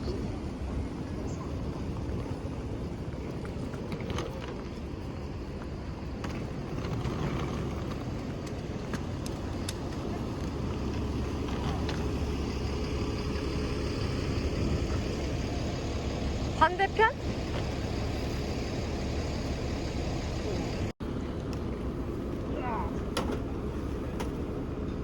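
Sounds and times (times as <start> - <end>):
road vehicle rumble: 0.0 - 25.0.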